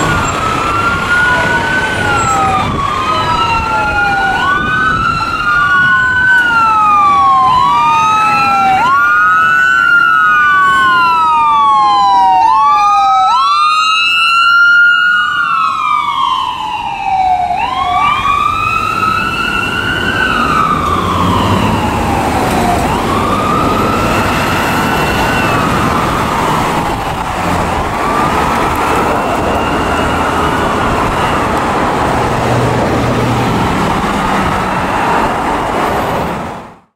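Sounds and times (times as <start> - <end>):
ambulance siren wailing: 0.0 - 36.9
road traffic rumbling: 0.0 - 36.9.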